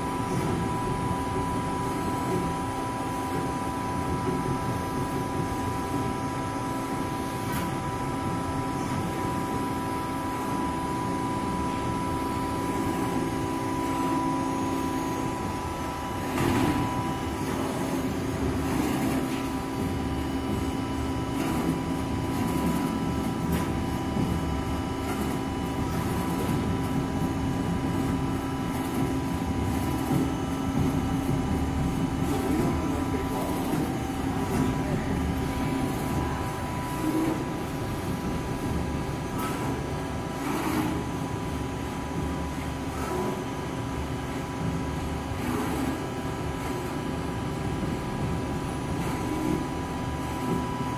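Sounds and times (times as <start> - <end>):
machine hum with high whine: 0.0 - 50.9.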